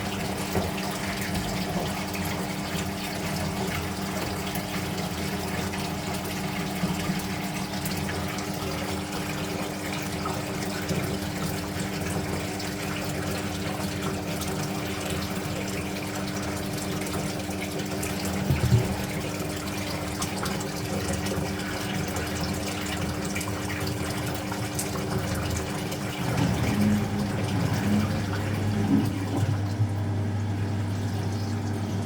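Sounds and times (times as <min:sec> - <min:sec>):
washing machine hum: 0:00.0 - 0:32.0
washing machine water rushing: 0:00.0 - 0:32.0.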